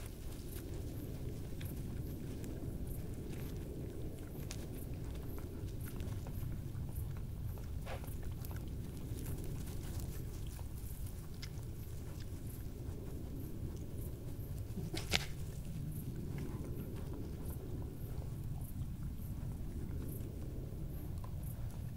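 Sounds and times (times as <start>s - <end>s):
animals crunching food: 0.0s - 21.9s
low background rumble: 0.0s - 21.9s.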